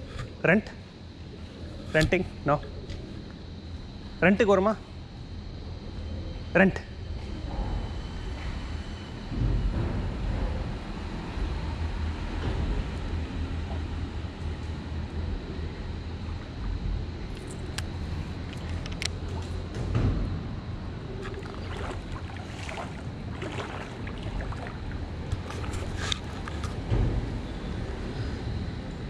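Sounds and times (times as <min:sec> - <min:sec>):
low rumble under bridge: 0:00.0 - 0:29.0.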